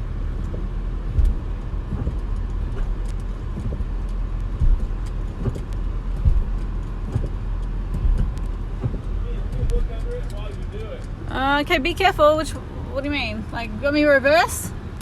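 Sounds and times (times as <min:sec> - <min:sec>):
car engine humming: 0:00.0 - 0:15.0
suspension clunks: 0:00.0 - 0:15.0.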